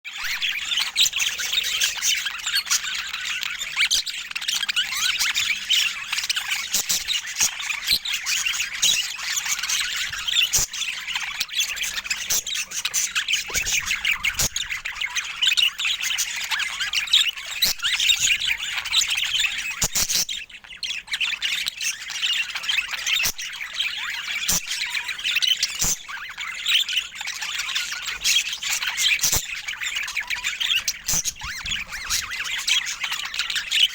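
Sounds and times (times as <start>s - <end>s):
budgerigars chattering: 0.2s - 33.9s.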